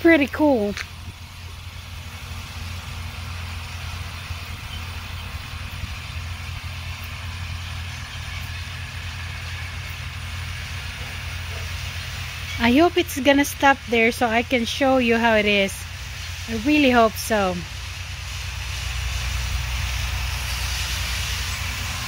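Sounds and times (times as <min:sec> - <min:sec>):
distant tractor engine hum: 0:00.0 - 0:22.0.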